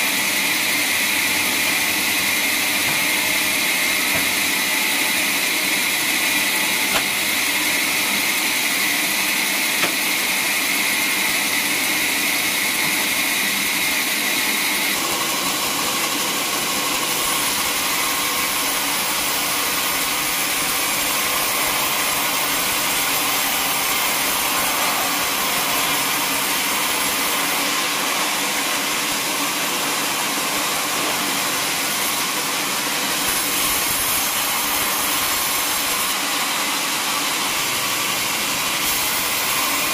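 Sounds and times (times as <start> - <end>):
band saw cutting through log: 0.0 - 39.9
band sawmill running: 0.0 - 39.9.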